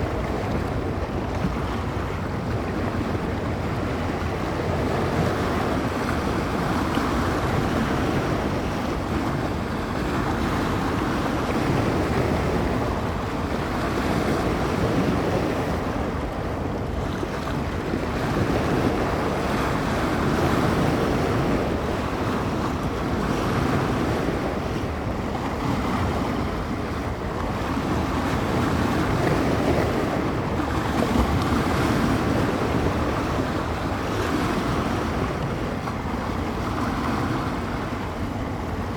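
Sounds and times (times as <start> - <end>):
waves breaking ashore: 0.0 - 38.9
wind on microphone: 0.0 - 38.9.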